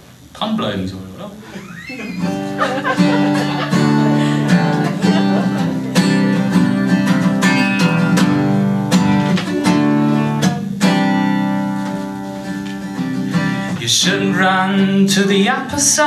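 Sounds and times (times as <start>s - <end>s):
acoustic guitar strumming: 1.4s - 16.0s.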